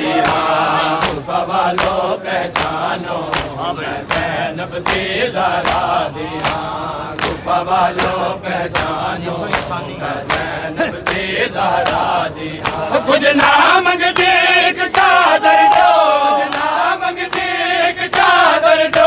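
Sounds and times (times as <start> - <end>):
crowd slapping chests in unison: 0.0 - 19.0
men chanting: 0.0 - 19.0.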